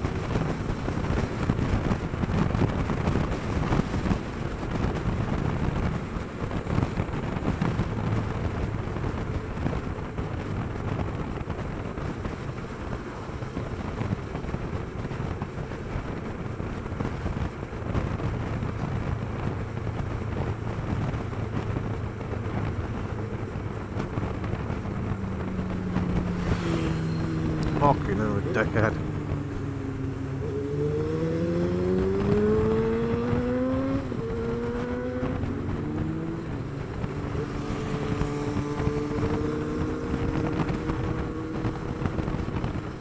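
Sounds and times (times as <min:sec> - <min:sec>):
motorcycle engine drone: 0:00.0 - 0:43.0
wind rushing over microphone: 0:00.0 - 0:43.0.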